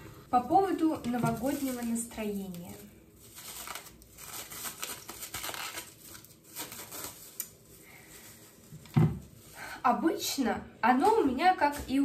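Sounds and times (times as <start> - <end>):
rustling and crinkling of kitchen items: 0.0 - 12.0.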